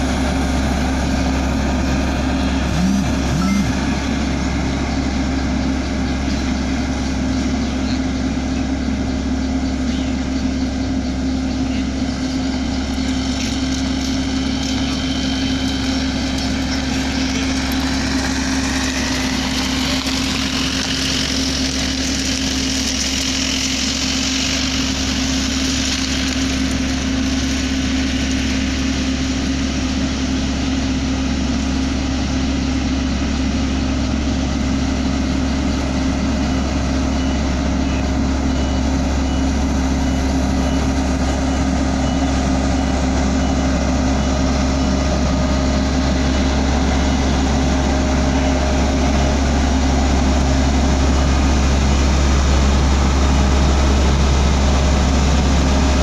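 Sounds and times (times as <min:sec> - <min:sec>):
road roller diesel engine running: 0:00.0 - 0:56.0.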